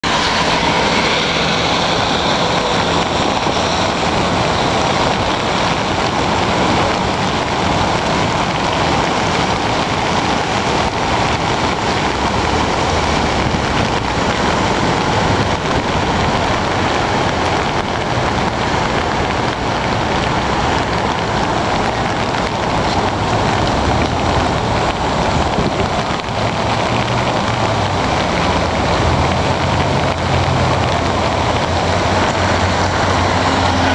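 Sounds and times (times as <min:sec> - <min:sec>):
river rushing: 0:00.0 - 0:33.9.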